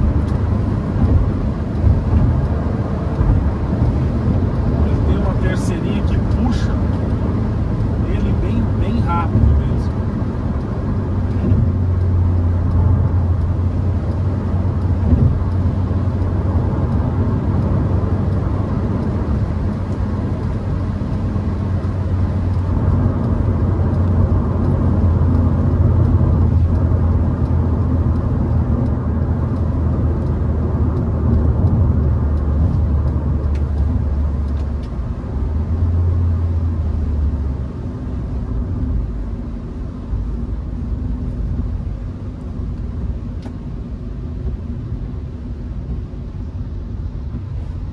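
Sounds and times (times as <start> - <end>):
car engine and road drone: 0.0 - 47.9.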